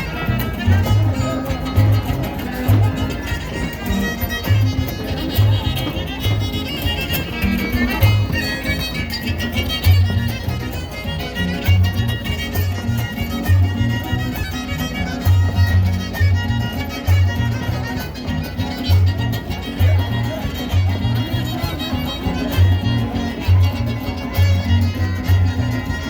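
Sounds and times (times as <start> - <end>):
fast strumming: 0.0 - 26.0
violin melody: 0.0 - 26.0.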